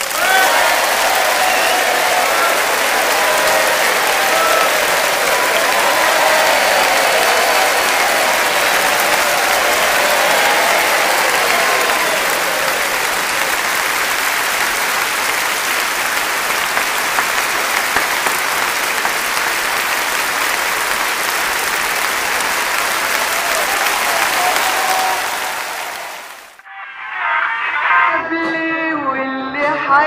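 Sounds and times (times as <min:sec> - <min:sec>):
audience applauding: 0:00.0 - 0:26.6.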